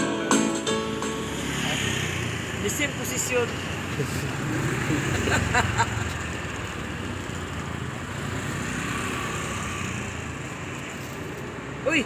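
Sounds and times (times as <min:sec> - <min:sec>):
traffic rumble: 0:00.2 - 0:12.0.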